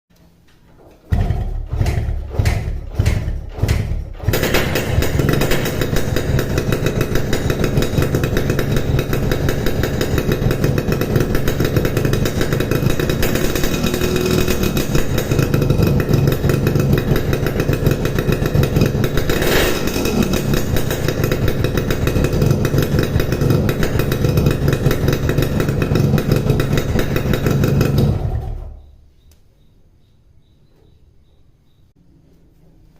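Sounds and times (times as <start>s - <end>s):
two-stroke motorcycle exhaust: 1.1s - 29.0s.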